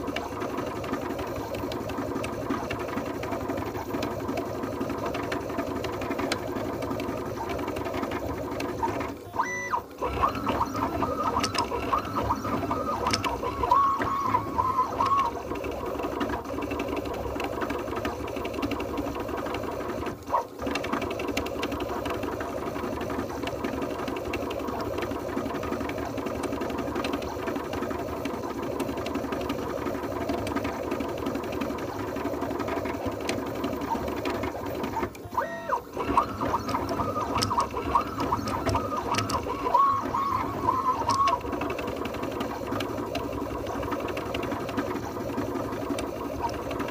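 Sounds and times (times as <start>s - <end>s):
three d printer motors buzzing: 0.0s - 46.9s.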